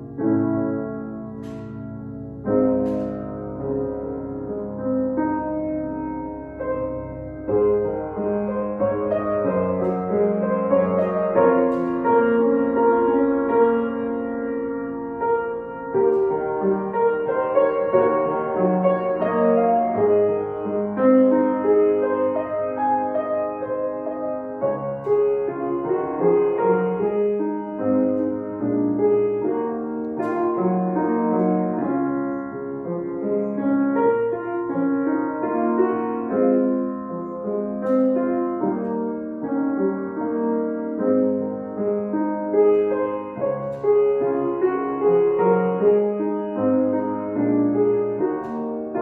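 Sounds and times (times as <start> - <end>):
slow solo piano piece: 0.0 - 49.0.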